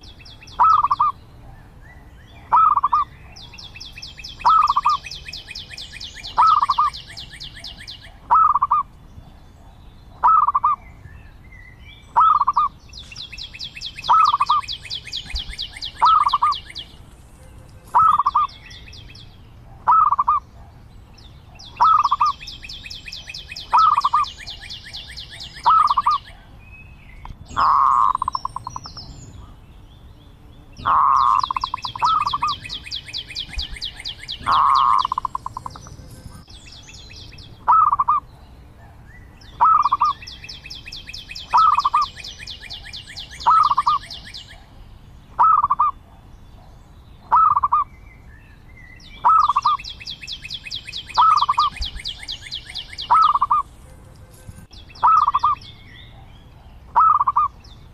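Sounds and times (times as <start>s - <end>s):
dove calling: 0.0s - 11.1s, 11.7s - 29.6s, 30.6s - 47.9s, 49.0s - 57.9s.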